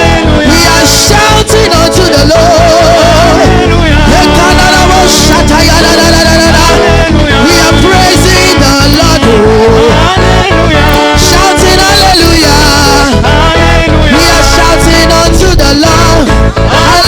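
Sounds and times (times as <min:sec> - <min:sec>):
people singing praise music: 0:00.0 - 0:17.0.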